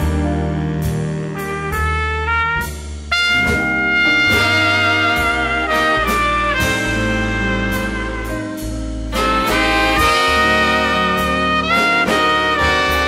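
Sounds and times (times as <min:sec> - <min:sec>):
bass line: 0:00.0 - 0:13.0
big band brass playing: 0:00.0 - 0:13.0.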